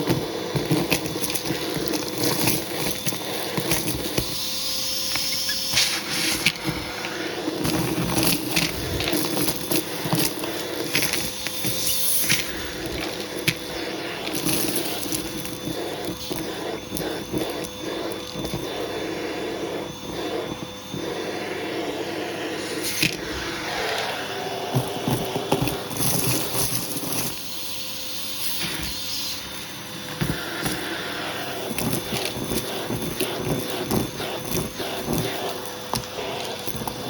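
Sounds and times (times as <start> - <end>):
vacuum cleaner motor whine: 0.0 - 37.0
vacuum tool knocking and scraping: 0.0 - 37.0.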